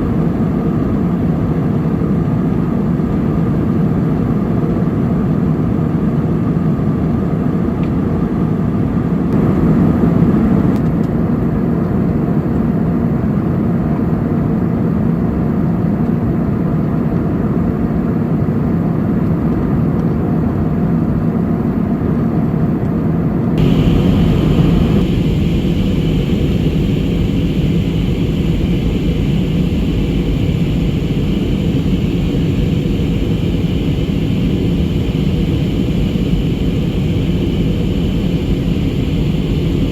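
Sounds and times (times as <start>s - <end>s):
aircraft cabin engine roar: 0.0s - 39.9s.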